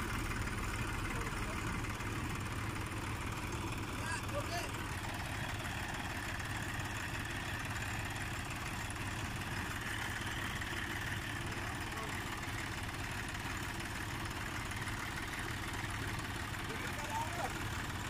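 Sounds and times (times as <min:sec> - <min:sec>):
diesel tractor engine idling: 0:00.0 - 0:18.0.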